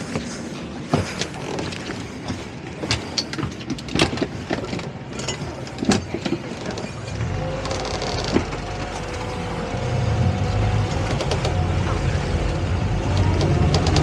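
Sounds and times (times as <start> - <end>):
boat engines droning: 0.0 - 14.0
engine whine: 0.0 - 14.0.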